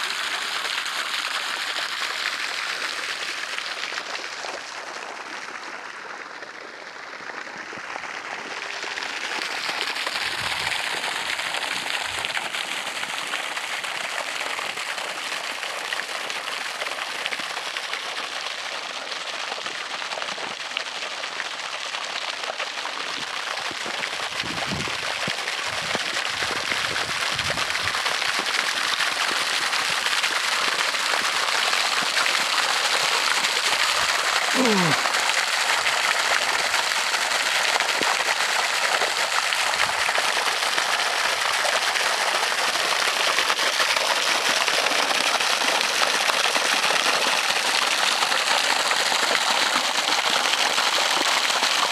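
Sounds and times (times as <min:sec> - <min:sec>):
water spray splashing onto water: 0:07.7 - 0:51.9.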